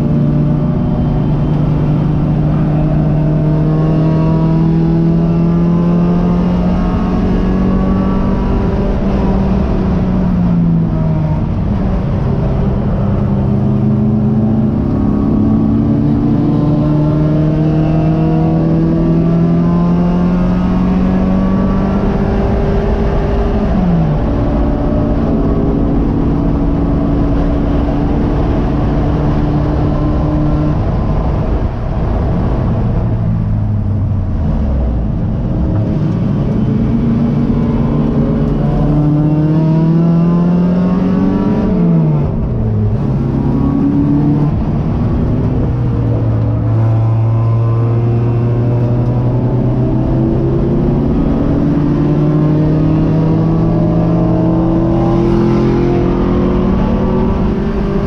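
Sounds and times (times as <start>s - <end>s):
race car engine pulling hard: 0.0s - 58.0s.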